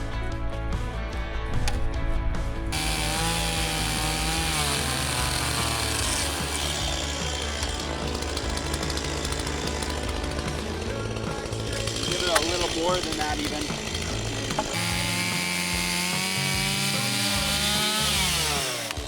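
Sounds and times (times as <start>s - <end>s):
background music: 0.0s - 19.0s
chainsaw running and cutting: 2.7s - 19.0s.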